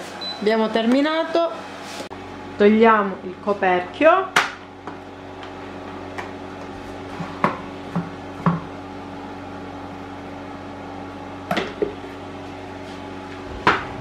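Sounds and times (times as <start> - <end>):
steady low hum: 0.3 - 14.0.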